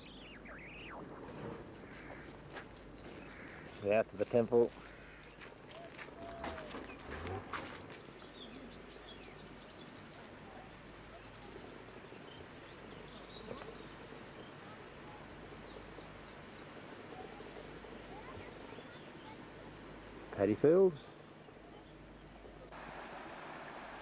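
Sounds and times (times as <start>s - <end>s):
small birds chirping: 0.0s - 22.7s
steady background hiss: 0.0s - 24.0s.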